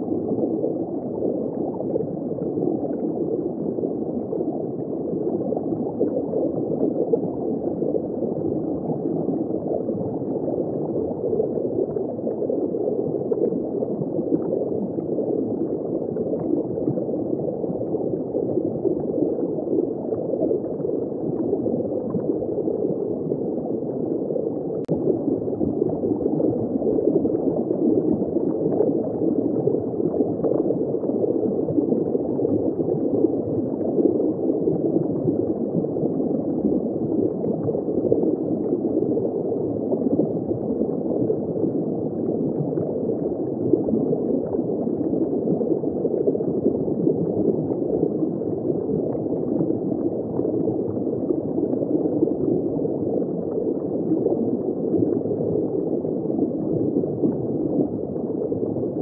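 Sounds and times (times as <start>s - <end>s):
muffled water gurgling in aquarium: 0.0s - 59.0s.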